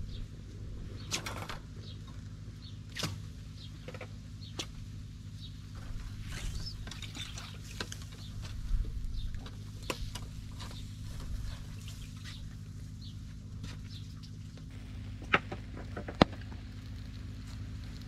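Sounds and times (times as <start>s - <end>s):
low hum: 0.0s - 18.0s
small birds chirping: 0.0s - 18.0s.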